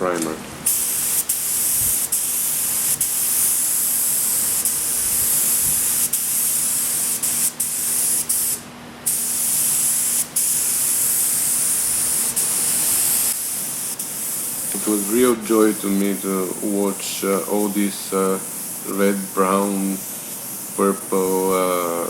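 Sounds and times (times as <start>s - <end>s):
air spray gun hissing: 0.0s - 22.0s.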